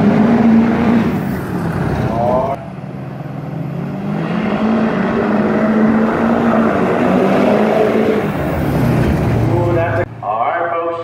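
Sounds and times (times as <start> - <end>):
diesel trucks accelerating: 0.0 - 11.0.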